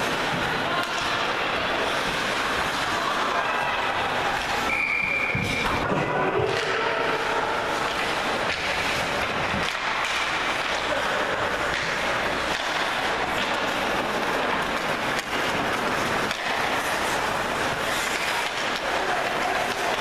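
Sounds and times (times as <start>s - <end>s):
faint voices: 0.0s - 20.0s
ice hockey skating and arena noise: 0.0s - 20.0s.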